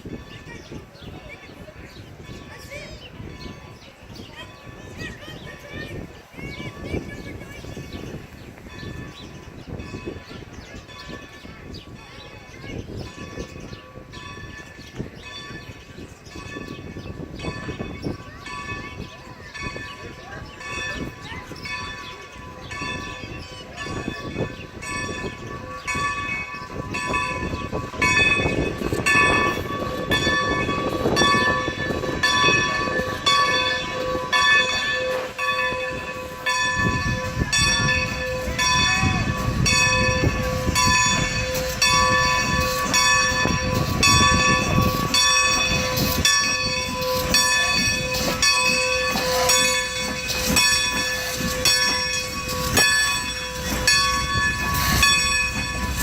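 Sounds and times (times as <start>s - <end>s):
locomotive bell ringing: 0.0s - 56.0s
train rolling rumble: 0.0s - 56.0s.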